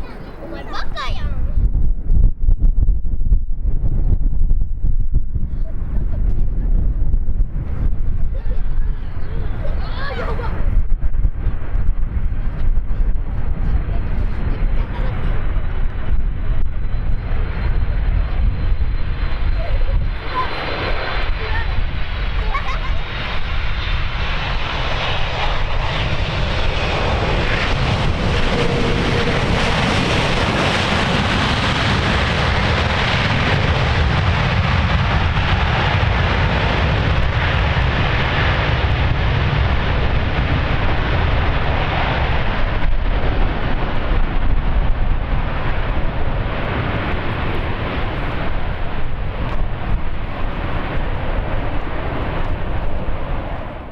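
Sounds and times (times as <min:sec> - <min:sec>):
jet engines roaring: 0:00.0 - 0:01.7, 0:05.2 - 0:53.9
heavy low rumble: 0:00.0 - 0:53.9.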